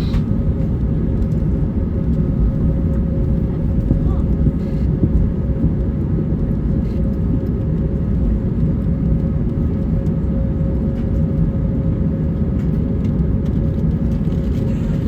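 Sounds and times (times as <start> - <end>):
aircraft engines rumbling at idle: 0.0 - 15.0
constant hum: 0.0 - 15.0.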